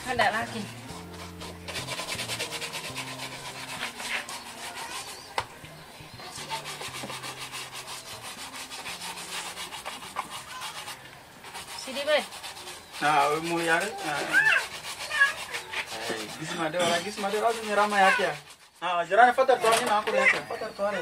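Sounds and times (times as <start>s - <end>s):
shoe brush scrubbing leather: 0.0s - 5.4s, 6.3s - 19.5s.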